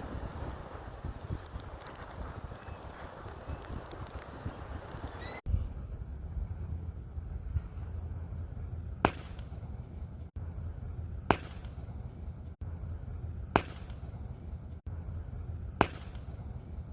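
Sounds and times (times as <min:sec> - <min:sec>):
fire crackling and popping: 0:00.0 - 0:05.5, 0:06.6 - 0:16.9
steady low rumble: 0:00.0 - 0:16.9.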